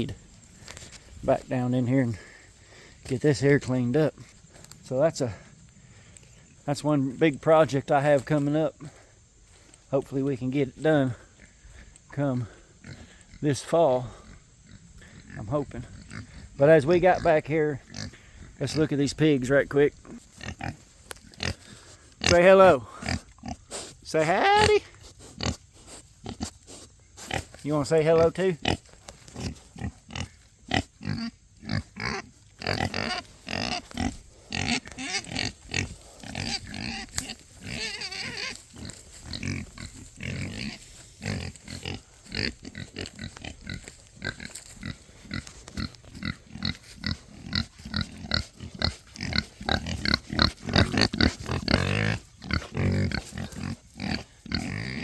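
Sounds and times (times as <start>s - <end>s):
pigs grunting: 0.0s - 9.1s, 10.0s - 55.0s.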